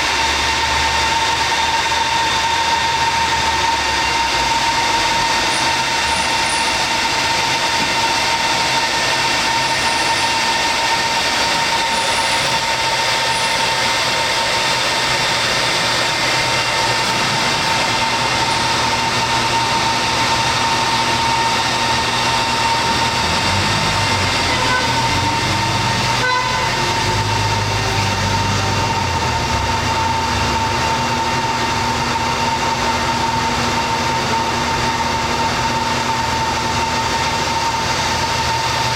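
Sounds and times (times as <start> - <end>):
low drone shifting pitch: 0.0 - 38.9
machinery with high whine: 0.0 - 38.9.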